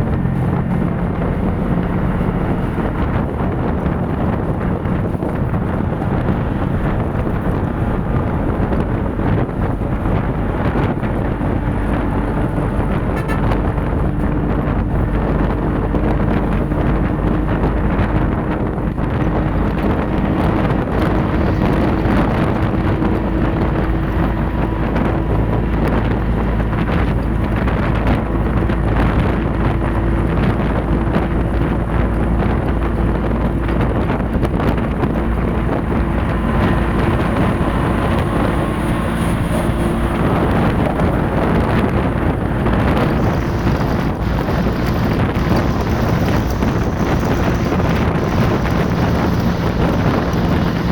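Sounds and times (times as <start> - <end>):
engine droning hum: 0.0 - 50.9
wind buffeting microphone: 0.0 - 50.9.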